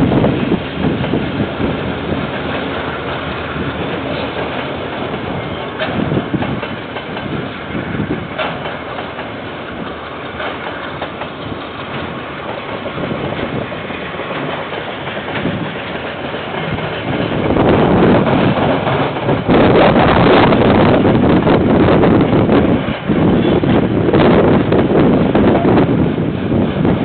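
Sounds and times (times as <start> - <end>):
freight train rumbling and rattling: 0.0 - 27.0
wheels clacking over rails: 0.0 - 27.0.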